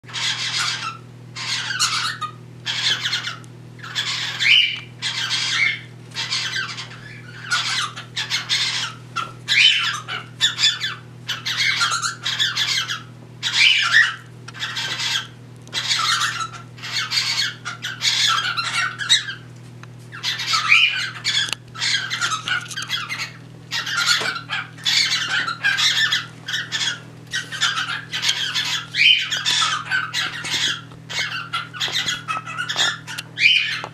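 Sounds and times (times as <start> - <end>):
steady low hum: 0.0 - 33.9
cockatiels squawking: 0.1 - 19.5, 20.1 - 33.9.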